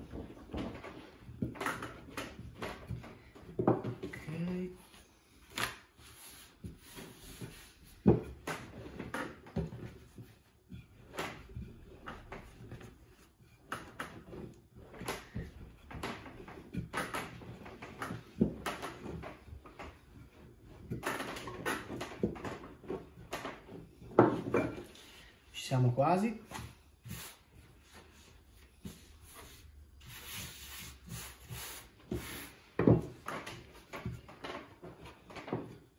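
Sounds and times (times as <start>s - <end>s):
rolling pin on wooden table: 0.0s - 25.4s, 26.3s - 35.9s.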